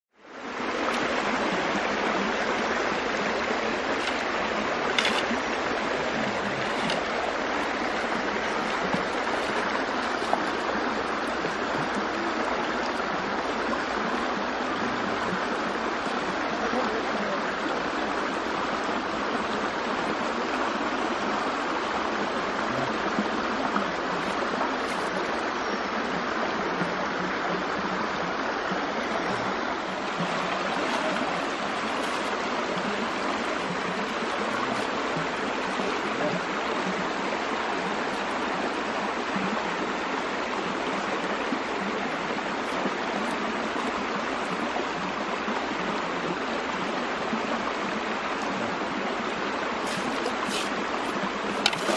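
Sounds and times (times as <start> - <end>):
stream running over stones: 0.1 - 51.9.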